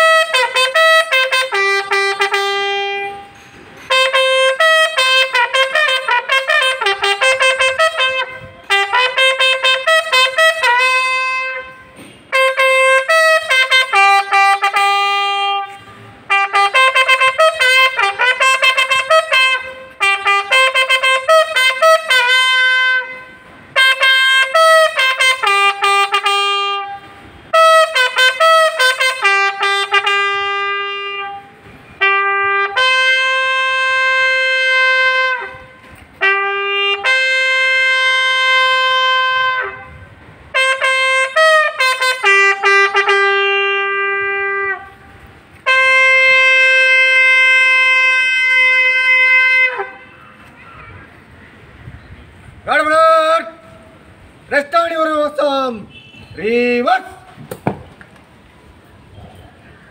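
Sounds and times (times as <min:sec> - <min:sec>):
bugle call: 0:00.0 - 0:51.2.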